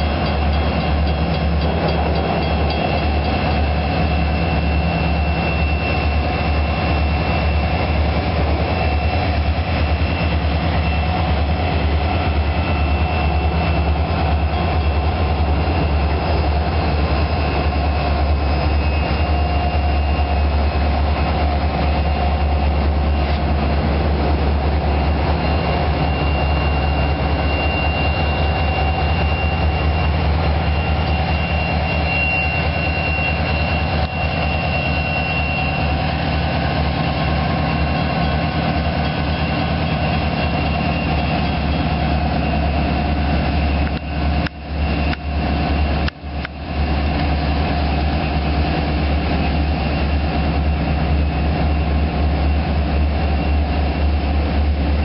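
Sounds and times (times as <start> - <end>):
high whine: 0.0 - 55.0
locomotive engine rumble: 0.0 - 55.0.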